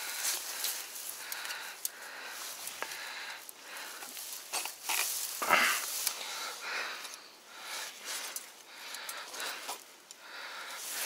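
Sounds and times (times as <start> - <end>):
grass and weeds rustling: 0.0 - 11.0.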